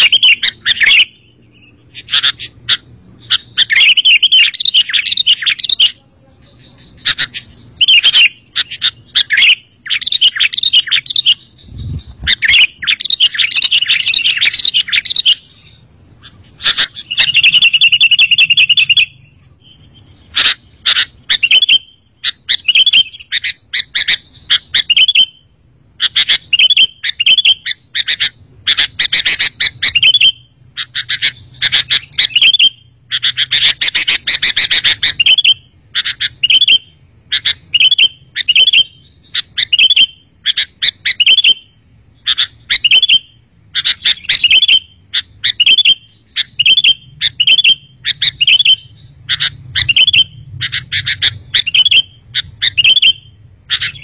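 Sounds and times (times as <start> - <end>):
birds chirping: 0.0 - 54.0
rattling bird trill: 2.0 - 15.6, 16.2 - 19.3, 26.0 - 54.0.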